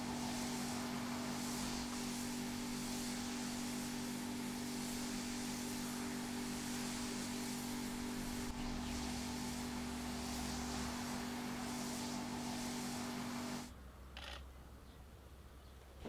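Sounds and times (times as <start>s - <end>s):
background hiss: 0.0s - 16.0s
constant low hum: 0.0s - 16.0s.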